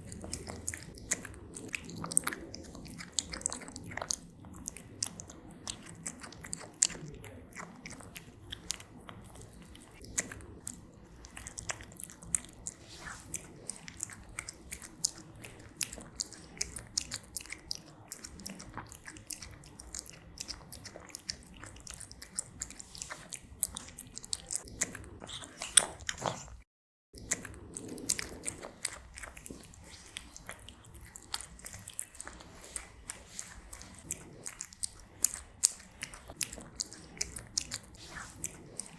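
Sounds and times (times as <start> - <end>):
cat chewing food: 0.0 - 26.6, 27.2 - 38.9.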